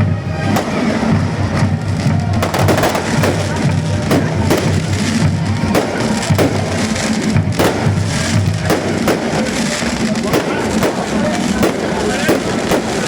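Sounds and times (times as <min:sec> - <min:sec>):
firework bangs: 0:00.0 - 0:13.0
loud music: 0:00.0 - 0:13.0.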